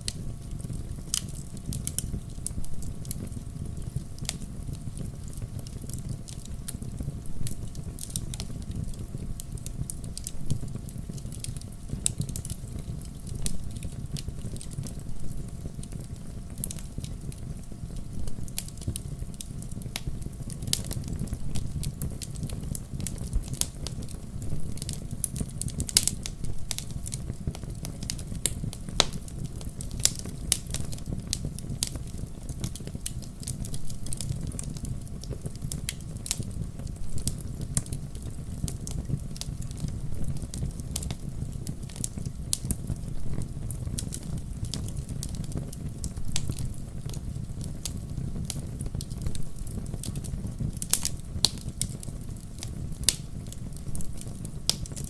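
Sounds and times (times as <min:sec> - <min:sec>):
campfire crackling and popping: 0:00.0 - 0:55.0
low fire rumble: 0:00.0 - 0:55.0.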